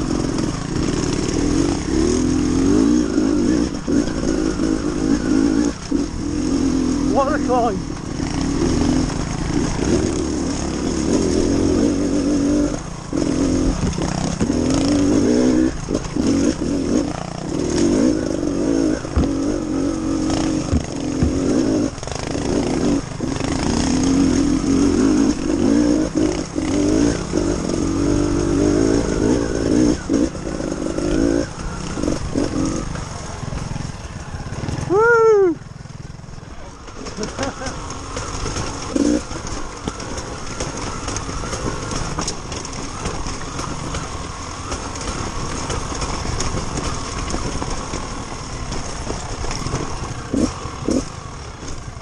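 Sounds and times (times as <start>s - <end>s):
motorcycle engine revving in bursts: 0.0s - 35.1s, 36.1s - 52.0s.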